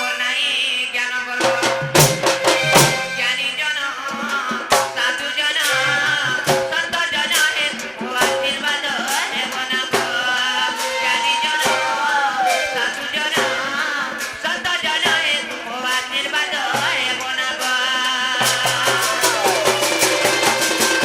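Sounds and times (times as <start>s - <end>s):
hand drums beating: 1.4s - 3.6s, 4.2s - 21.0s.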